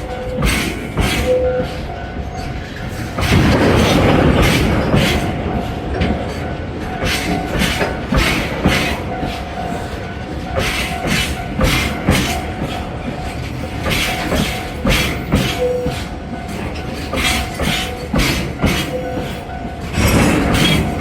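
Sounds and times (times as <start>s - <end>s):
train rumble: 0.0s - 21.0s
train wheels clacking over rail joints: 0.0s - 21.0s.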